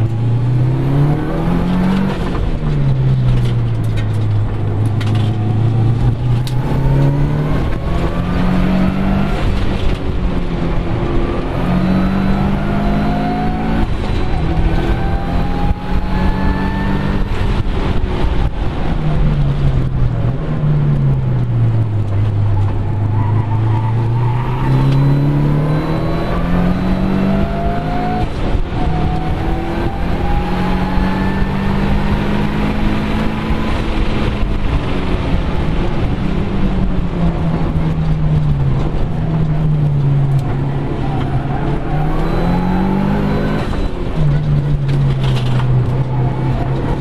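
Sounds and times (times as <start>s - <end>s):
car engine revving hard: 0.0s - 18.6s, 23.2s - 38.0s, 38.6s - 47.0s.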